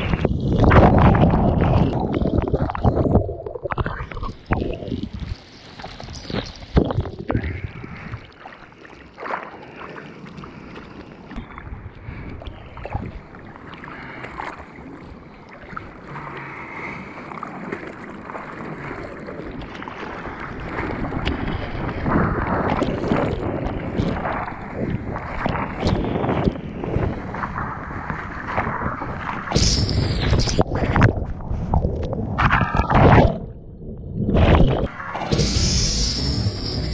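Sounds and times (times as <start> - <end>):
sea water sloshing and splashing: 0.0 - 36.9.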